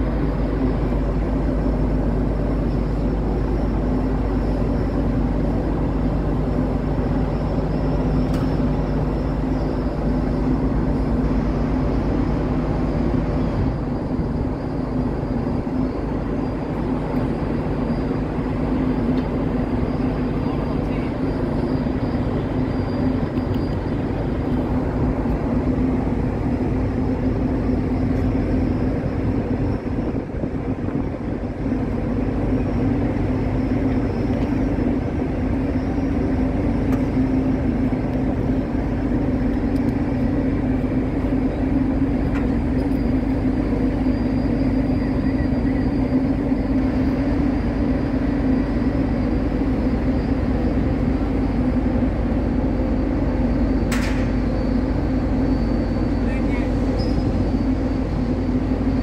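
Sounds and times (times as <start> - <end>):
low machinery hum: 0.0 - 59.0.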